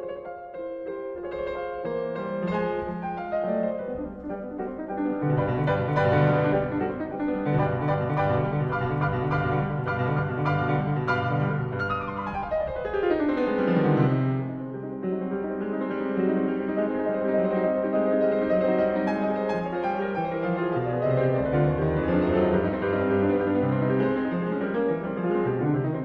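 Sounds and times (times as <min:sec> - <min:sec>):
piano music with quick notes: 0:00.0 - 0:26.0.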